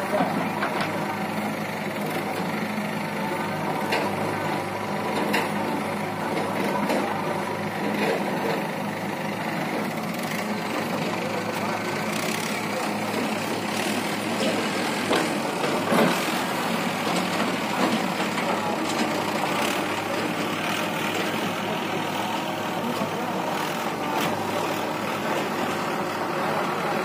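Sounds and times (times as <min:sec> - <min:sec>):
backhoe loader working: 0:00.0 - 0:27.0
tractor diesel engine idling: 0:00.0 - 0:27.0.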